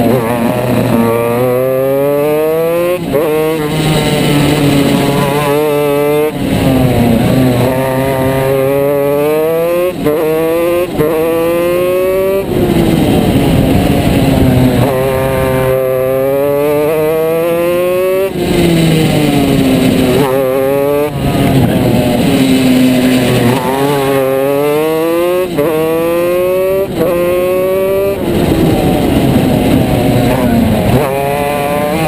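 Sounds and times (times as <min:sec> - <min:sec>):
kart engine accelerating: 0:00.0 - 0:32.0.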